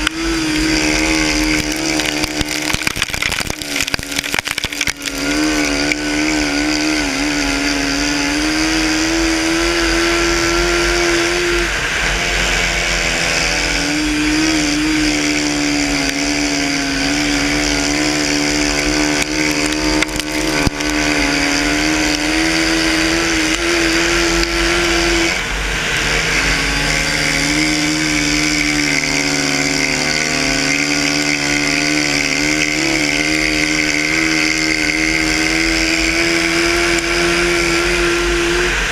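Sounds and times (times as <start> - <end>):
quad engine revving high: 0.0 - 38.9.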